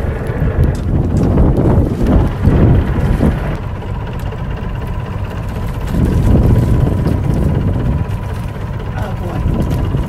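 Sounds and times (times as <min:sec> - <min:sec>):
boat engine idling: 0:00.0 - 0:10.0
wind on microphone: 0:00.0 - 0:10.0.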